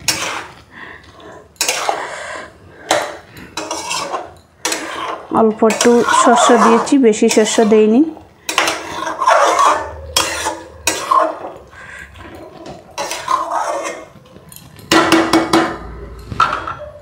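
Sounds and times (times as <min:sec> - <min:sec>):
metal spatula scraping cookware: 0:00.0 - 0:17.0.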